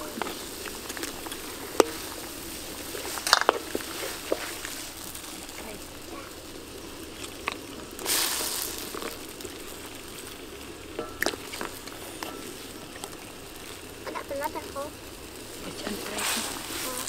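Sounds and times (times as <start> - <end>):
soup boiling and bubbling: 0.0 - 17.0.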